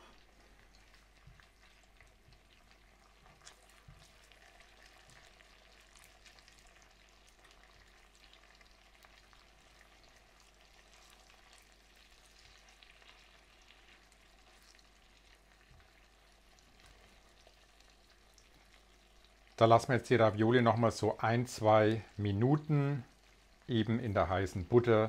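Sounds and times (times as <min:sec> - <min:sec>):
butter sizzling in a pan: 0:00.0 - 0:25.0.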